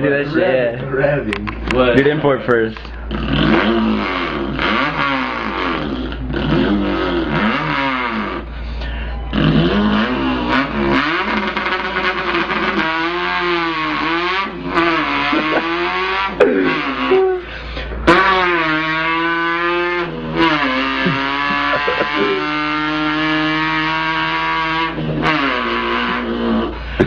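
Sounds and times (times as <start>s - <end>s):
man imitating car engine revving: 2.9s - 27.0s.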